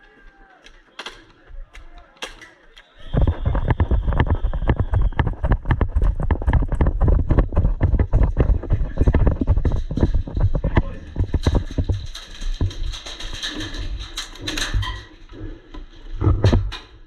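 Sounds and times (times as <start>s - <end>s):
running footsteps: 0.0s - 17.0s.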